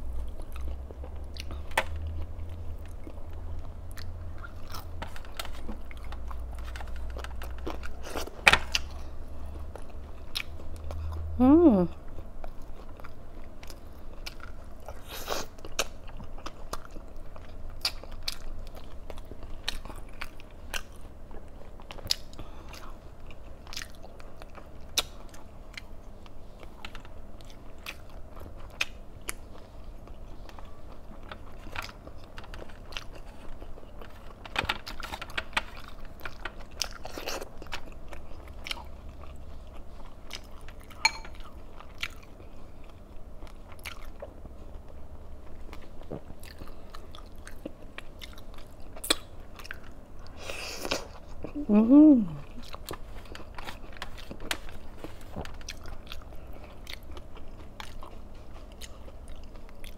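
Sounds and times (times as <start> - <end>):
chewing and biting food: 0.0 - 11.3, 11.9 - 51.6, 52.4 - 59.9.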